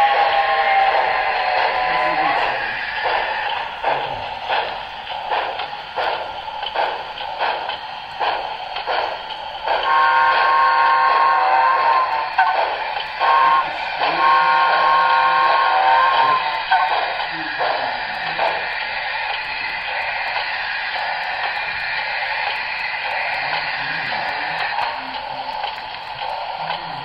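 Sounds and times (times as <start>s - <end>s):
model locomotive chuffing: 0.0s - 27.0s.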